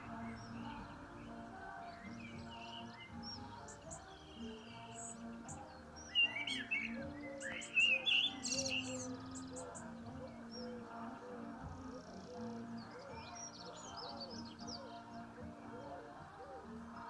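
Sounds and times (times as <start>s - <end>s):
birds chirping and singing: 0.0s - 17.0s
quiet folk music: 0.0s - 17.0s.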